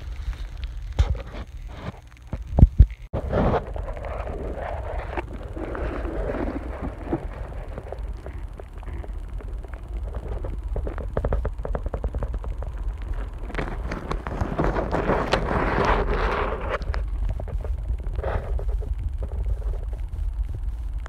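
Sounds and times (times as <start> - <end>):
underwater low rumble: 0.0 - 21.0
underwater rushing noise: 2.5 - 21.0.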